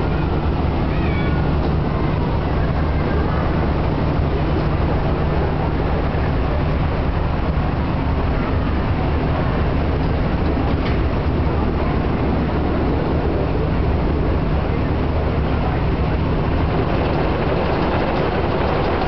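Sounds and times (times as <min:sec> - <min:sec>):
machinery humming and rumbling: 0:00.0 - 0:19.0.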